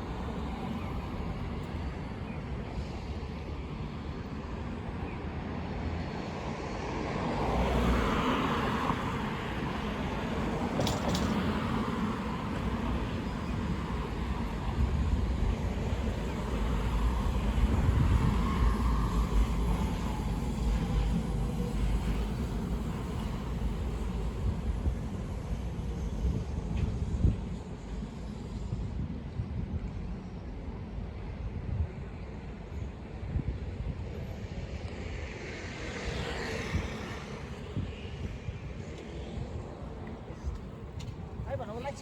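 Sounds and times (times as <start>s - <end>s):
city traffic rumble: 0.0s - 42.0s.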